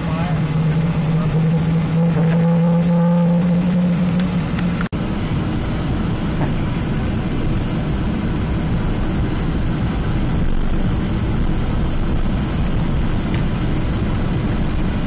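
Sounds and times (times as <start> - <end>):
jet engines rushing in cabin: 0.0 - 15.0
low rumble: 0.0 - 15.0.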